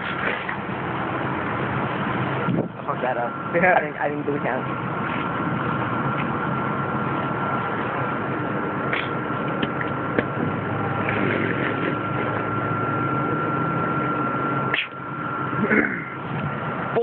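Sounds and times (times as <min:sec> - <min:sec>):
high-pitched hum: 0:00.0 - 0:17.0
mechanical rumble: 0:00.0 - 0:17.0.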